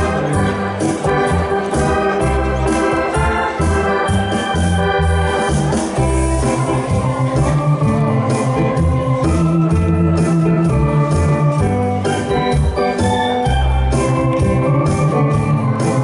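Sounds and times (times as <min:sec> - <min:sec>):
electronic keyboard dance music: 0:00.0 - 0:16.0.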